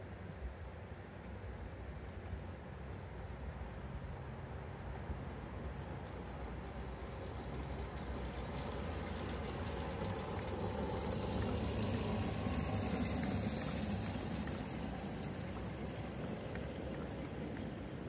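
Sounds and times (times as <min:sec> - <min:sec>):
cars rolling along rails: 0:00.2 - 0:18.0
miniature locomotive rumbling: 0:03.2 - 0:18.0.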